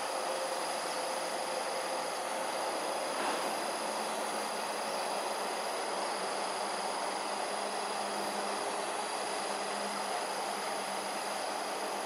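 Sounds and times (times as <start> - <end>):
even outdoor hiss: 0.0 - 12.0.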